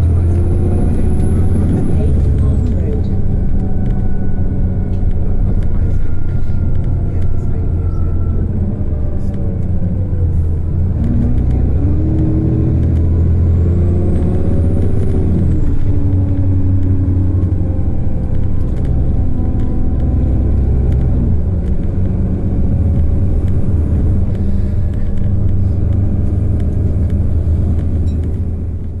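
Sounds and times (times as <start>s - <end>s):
bus diesel engine running: 0.0s - 29.0s.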